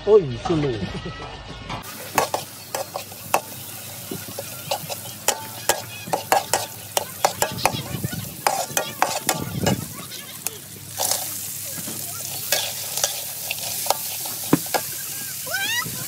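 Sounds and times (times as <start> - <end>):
metal spatula scraping wok: 1.8 - 15.4
ingredients sizzling in oil: 1.8 - 16.0.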